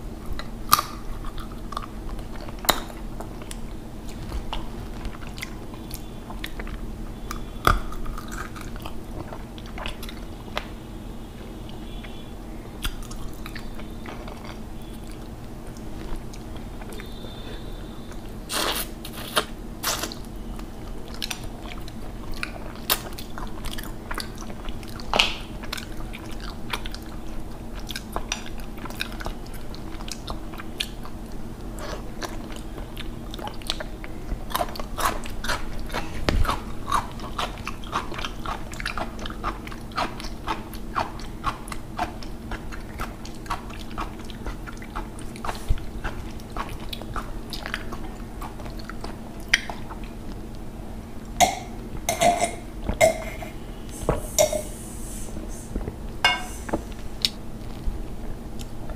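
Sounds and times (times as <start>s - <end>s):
person chewing food: 0.2s - 10.7s, 12.8s - 52.2s.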